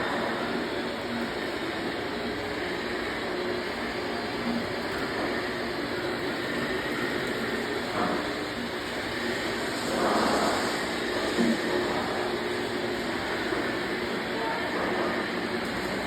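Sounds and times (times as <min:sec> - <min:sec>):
steady mechanical noise: 0:00.0 - 0:16.0.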